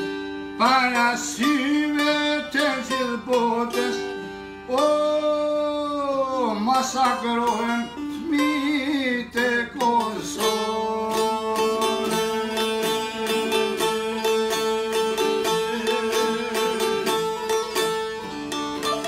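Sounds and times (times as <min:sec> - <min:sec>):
man singing long wavering notes: 0:00.0 - 0:19.0
plucked long-necked lute: 0:00.0 - 0:19.0.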